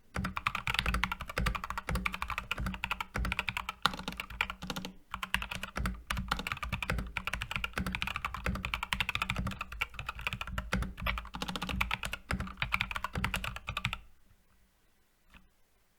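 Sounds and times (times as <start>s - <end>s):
mechanical keyboard typing: 0.2s - 14.1s.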